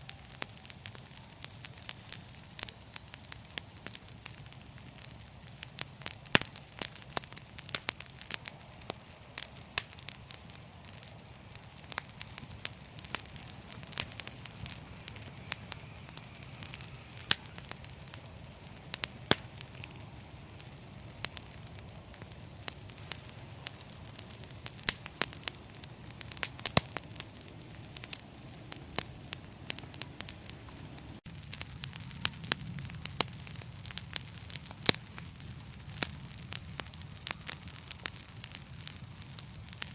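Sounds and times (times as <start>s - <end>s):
fire popping and snapping: 0.0s - 39.9s
low rumble of flames: 0.0s - 39.9s.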